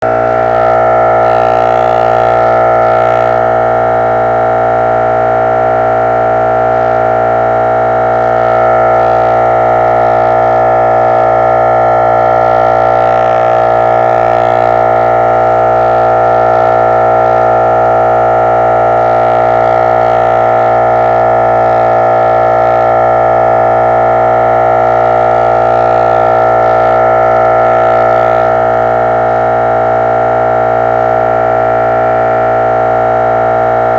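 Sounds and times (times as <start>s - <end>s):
electronic robot chord: 0.0s - 33.9s.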